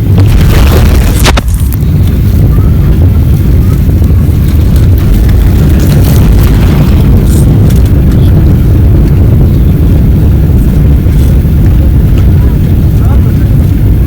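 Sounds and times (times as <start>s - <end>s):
jet engine rumble in cabin: 0.0s - 14.0s.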